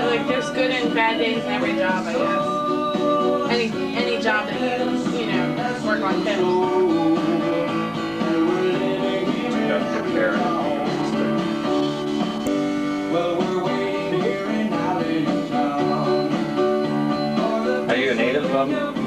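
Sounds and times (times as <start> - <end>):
country song on a radio: 0.0 - 19.0.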